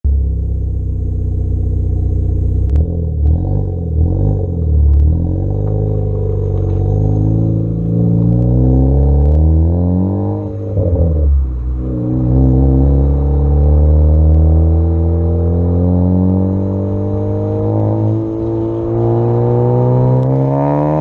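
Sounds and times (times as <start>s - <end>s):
car engine revving with crackles: 0.1s - 21.0s.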